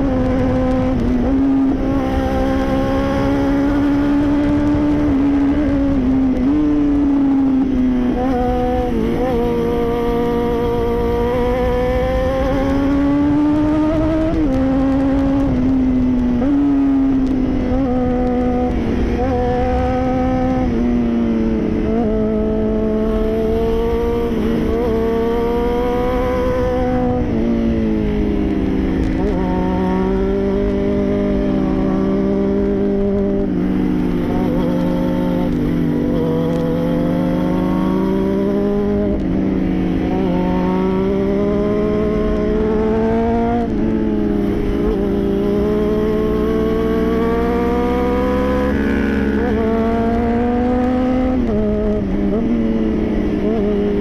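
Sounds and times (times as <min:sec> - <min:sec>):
motorcycle engine at riding speed: 0:00.0 - 0:54.0
wind rush on microphone: 0:00.0 - 0:54.0.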